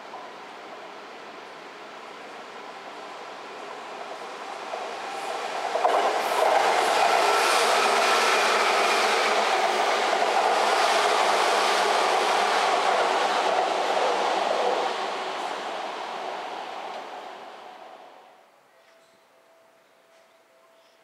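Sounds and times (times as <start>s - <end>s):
electric train passing: 0.0s - 18.4s.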